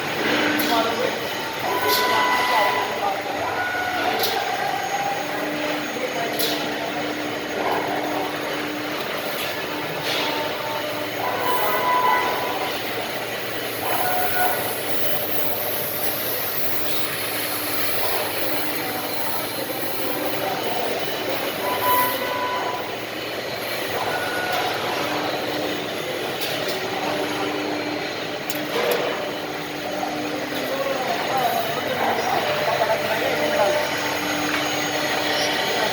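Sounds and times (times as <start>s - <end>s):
cnc router cutting wood: 0.0s - 35.9s.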